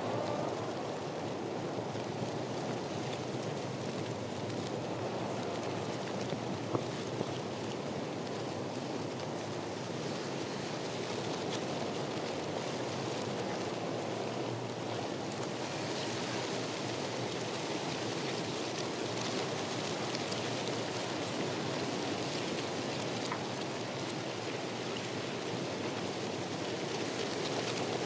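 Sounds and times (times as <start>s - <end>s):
rushing water: 0.0s - 28.0s
fine pattering ticks: 0.1s - 28.0s.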